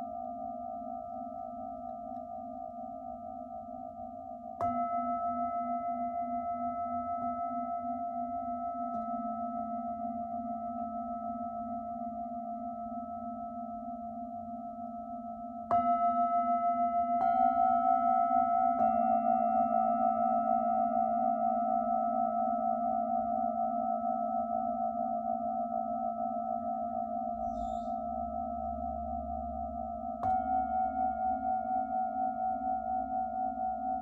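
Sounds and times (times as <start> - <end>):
bowl being struck: 0.0 - 34.0
singing bowls ringing: 0.0 - 34.0.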